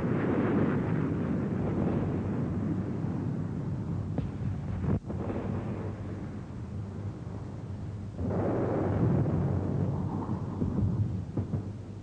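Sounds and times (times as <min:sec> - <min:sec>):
rumbling explosions: 0:00.0 - 0:12.0.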